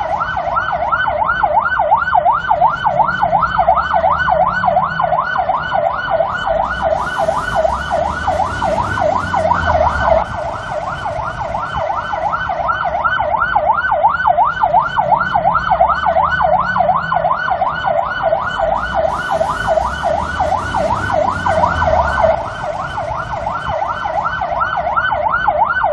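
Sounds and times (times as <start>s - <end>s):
low vehicle rumble: 0.0s - 25.9s
police siren yelping: 0.0s - 25.9s.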